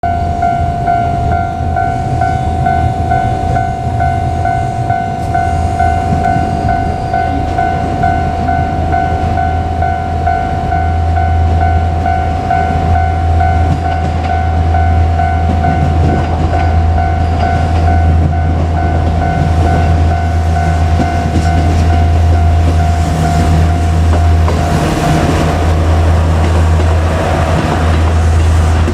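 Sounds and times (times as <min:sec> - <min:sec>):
level crossing alarm ringing: 0:00.0 - 0:28.5
diesel railcar engine drone: 0:00.0 - 0:28.9.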